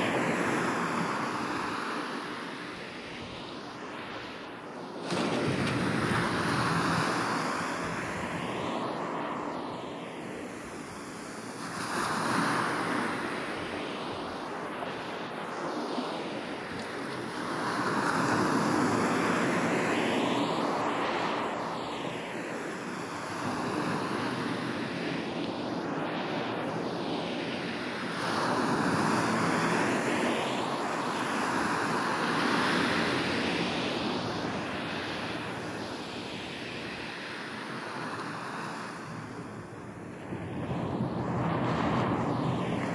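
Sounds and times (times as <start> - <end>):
surf washing up a beach: 0.0 - 42.9.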